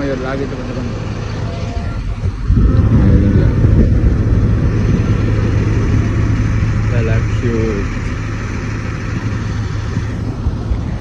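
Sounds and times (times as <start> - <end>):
bus diesel engine revving: 0.0 - 11.0.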